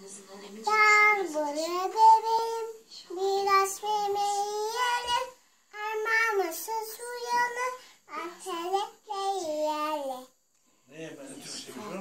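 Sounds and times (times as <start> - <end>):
toddler girl singing: 0.7 - 10.4.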